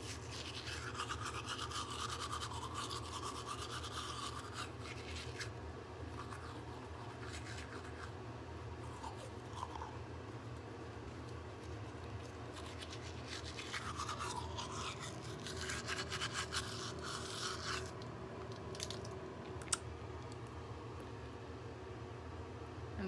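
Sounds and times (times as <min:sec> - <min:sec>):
toothbrush scrubbing teeth: 0:00.0 - 0:08.2, 0:08.8 - 0:19.1.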